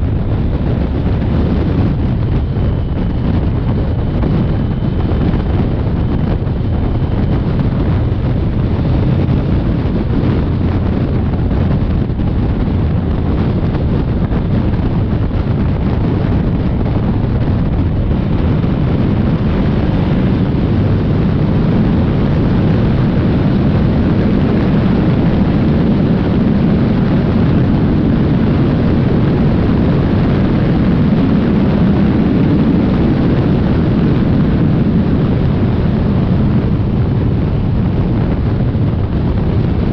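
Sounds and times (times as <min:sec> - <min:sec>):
motorcycle engine running: 0:00.0 - 0:32.2
wind buffeting microphone: 0:00.0 - 0:39.9.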